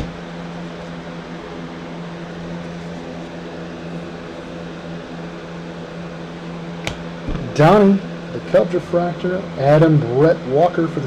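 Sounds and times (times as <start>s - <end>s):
room fan motor hum: 0.0s - 11.0s.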